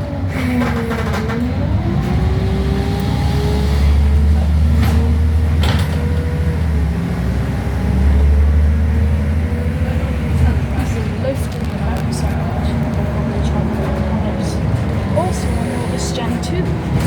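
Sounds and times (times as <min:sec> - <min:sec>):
bus diesel engine rumble: 0:00.0 - 0:17.0
bus driveline whine: 0:00.0 - 0:17.0.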